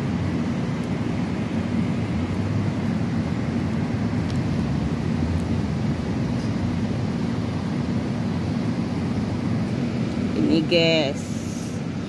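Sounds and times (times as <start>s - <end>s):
heavy rain roar: 0.0s - 12.0s.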